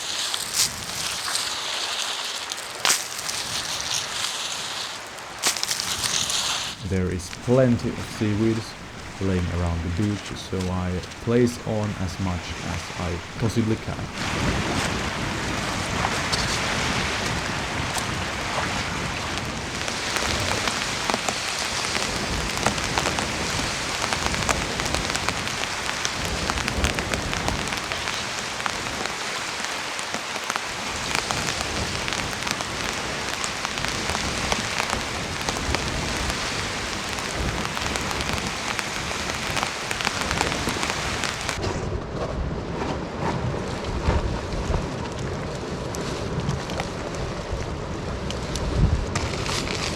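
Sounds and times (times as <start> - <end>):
heavy rain hissing: 0.0 - 41.6.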